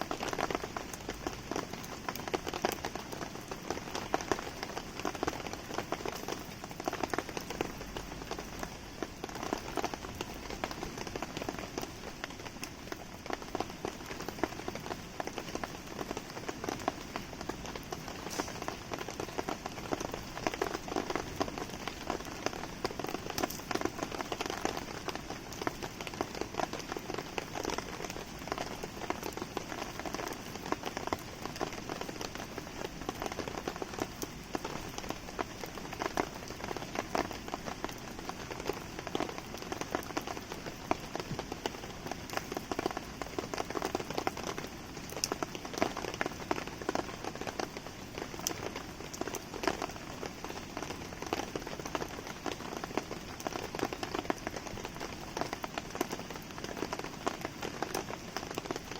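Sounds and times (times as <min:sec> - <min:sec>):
campfire crackling: 0:00.0 - 0:58.9
rain pattering: 0:00.0 - 0:58.9.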